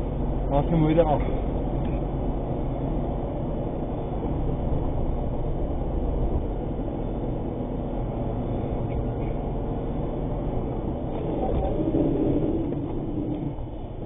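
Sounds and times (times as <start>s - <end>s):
truck engine rumble: 0.0s - 14.0s.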